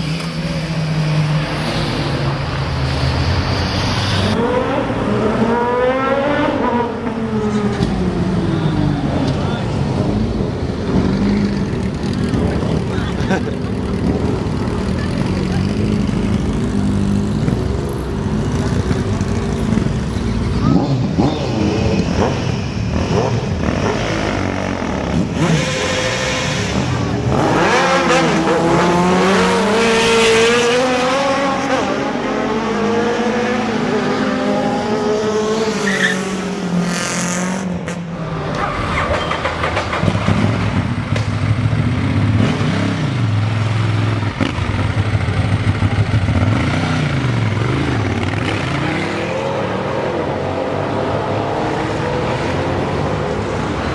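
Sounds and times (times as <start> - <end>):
motorcycle engines running: 0.0 - 36.8, 37.7 - 53.9
motorcycle revving and accelerating: 0.0 - 53.9.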